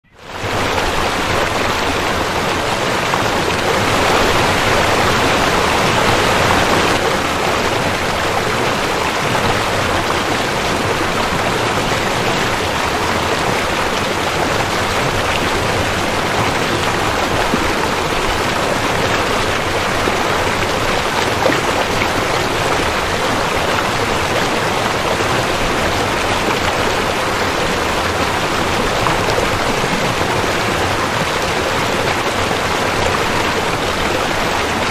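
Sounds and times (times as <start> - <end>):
river flowing over gravel: 0.2 - 34.9.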